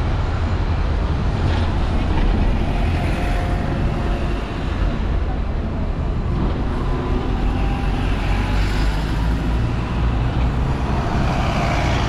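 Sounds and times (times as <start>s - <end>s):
bus engines rumbling: 0.0s - 12.0s
street noise: 0.0s - 12.0s.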